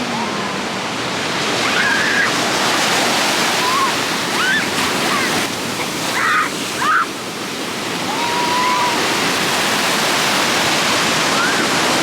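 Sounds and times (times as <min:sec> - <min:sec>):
ocean surf washing up beach: 0:00.0 - 0:12.0.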